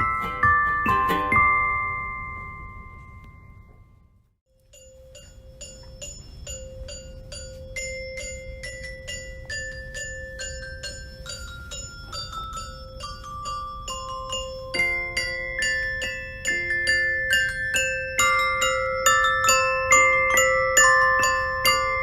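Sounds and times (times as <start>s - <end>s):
bell-like mallet percussion: 0.0s - 22.0s.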